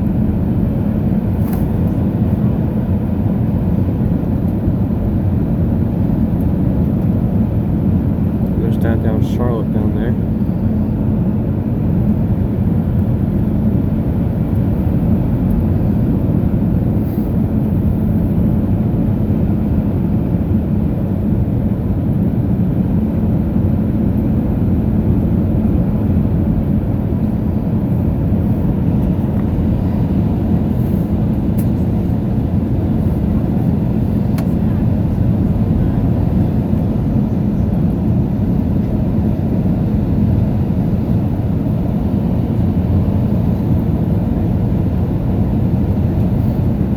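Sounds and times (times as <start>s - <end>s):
airliner cabin engine roar: 0.0s - 46.9s.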